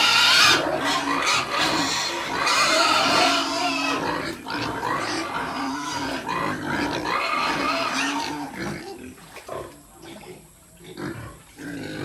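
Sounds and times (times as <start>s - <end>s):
young pigs grunting: 0.0s - 12.0s.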